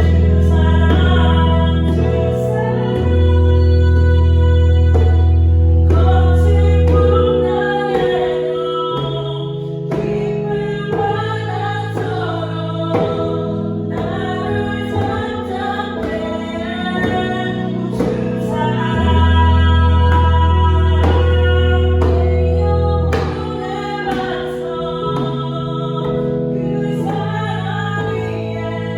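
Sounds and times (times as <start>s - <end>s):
keyboard accompaniment: 0.0s - 28.9s
woman singing slow melody: 0.0s - 28.9s.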